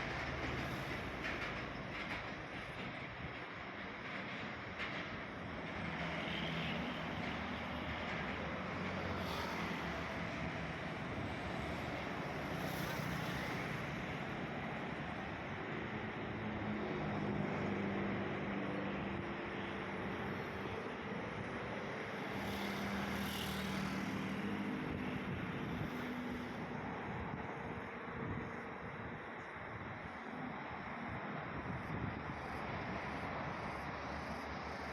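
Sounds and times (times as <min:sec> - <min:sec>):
wind-like outdoor noise: 0:00.0 - 0:34.9.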